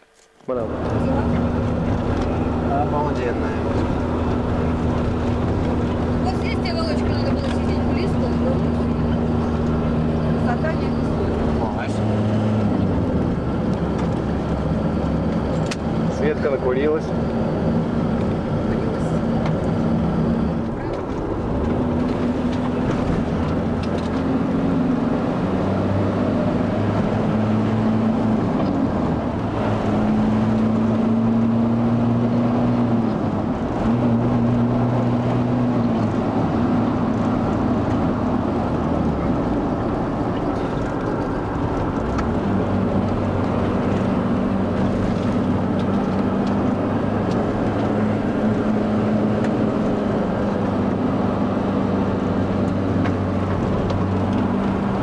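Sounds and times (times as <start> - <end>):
car engine running: 0.0 - 55.0
road and wind noise: 0.0 - 55.0.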